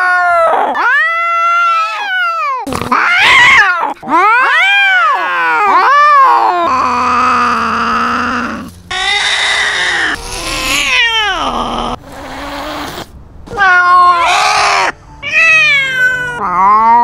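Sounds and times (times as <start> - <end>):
cats yowling: 0.0 - 17.0.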